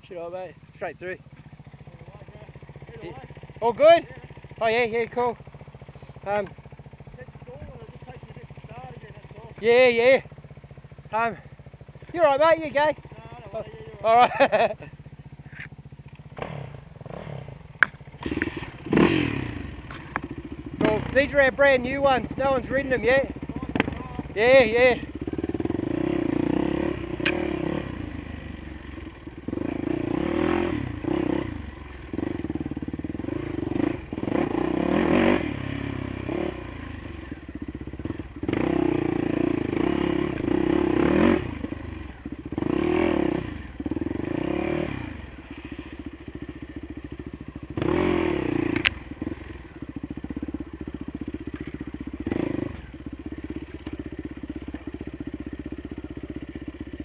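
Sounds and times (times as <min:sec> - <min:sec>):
dirt bike engine idling: 0:00.0 - 0:57.0
dirt bikes revving past: 0:01.3 - 0:10.4, 0:11.0 - 0:56.3.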